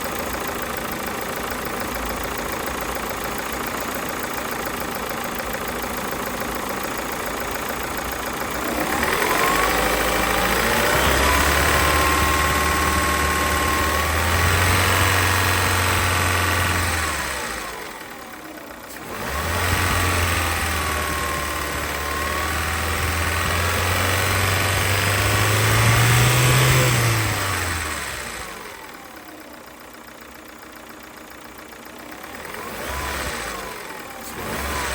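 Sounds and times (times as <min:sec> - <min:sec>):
car engine idling and revving: 0:00.0 - 0:34.9
engine ticking and rattling: 0:00.0 - 0:34.9.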